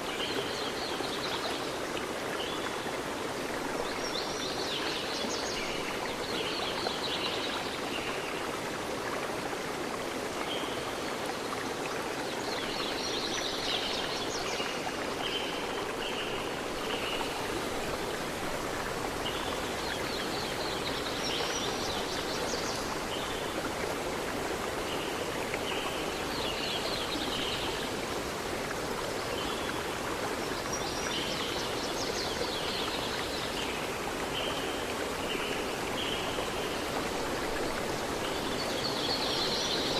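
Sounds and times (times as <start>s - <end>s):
river stream rushing: 0.0s - 39.9s.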